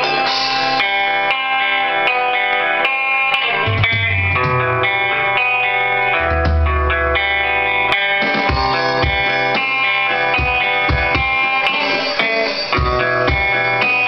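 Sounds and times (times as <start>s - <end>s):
electric guitar playing: 0.0s - 14.0s.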